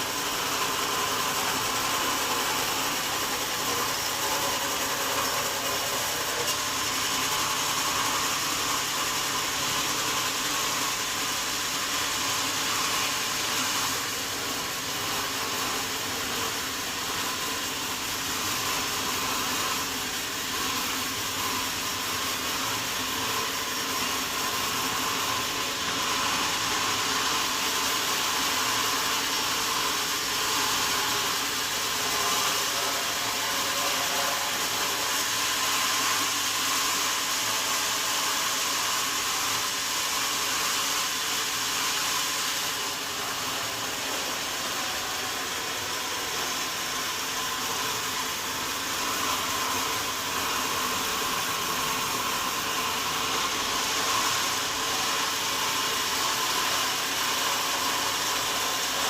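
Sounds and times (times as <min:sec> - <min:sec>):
sawmill machinery whirring: 0:00.0 - 0:59.0.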